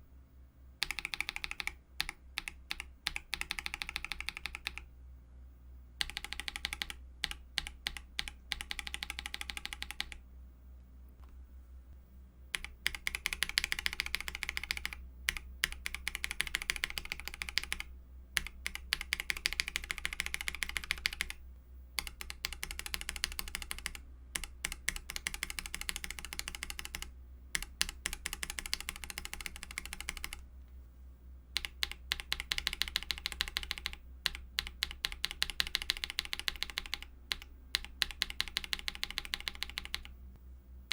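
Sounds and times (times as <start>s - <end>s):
typing on mechanical keyboard: 0.8s - 4.9s, 6.0s - 10.2s, 12.5s - 21.4s, 22.0s - 30.4s, 31.6s - 40.1s.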